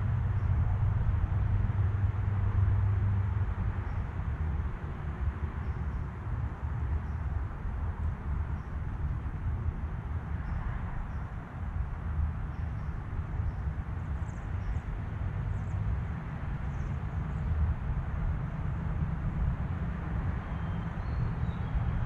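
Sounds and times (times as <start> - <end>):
low rumble outdoors: 0.0 - 22.0.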